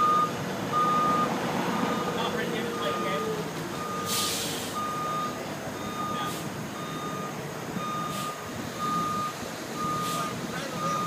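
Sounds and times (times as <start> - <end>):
reversing alarm beeping: 0.0 - 1.3, 1.9 - 11.0
forklift engine running: 0.0 - 11.0.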